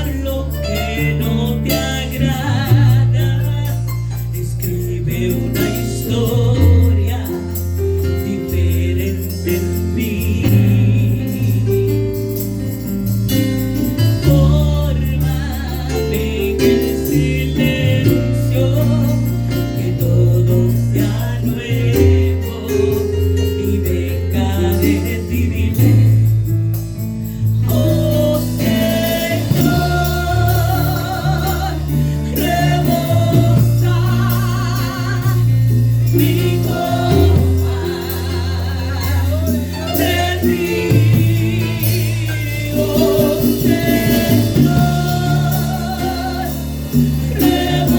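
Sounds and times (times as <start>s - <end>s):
people singing: 0.0s - 11.9s, 13.8s - 26.5s, 27.6s - 47.9s
worship band playing: 0.0s - 47.9s.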